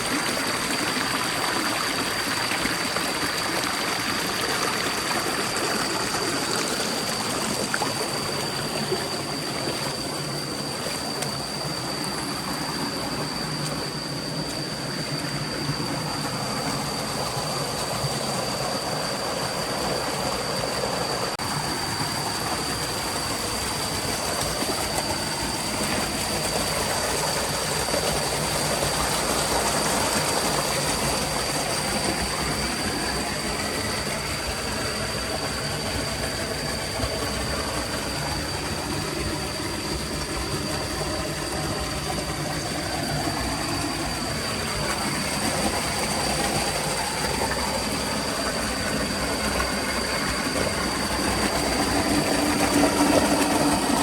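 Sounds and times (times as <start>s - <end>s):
stream rushing: 0.0s - 54.0s
thin steady high tone: 0.0s - 54.0s.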